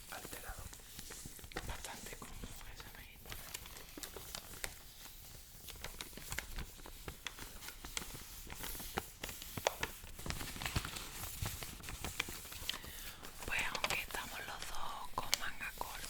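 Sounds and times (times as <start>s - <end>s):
paper crackling: 0.0s - 16.0s.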